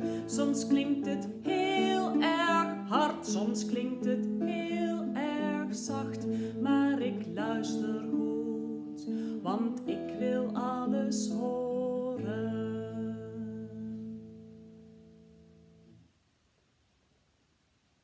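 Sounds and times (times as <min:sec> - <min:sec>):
woman singing: 0:00.0 - 0:14.5
classical guitar: 0:00.0 - 0:16.2.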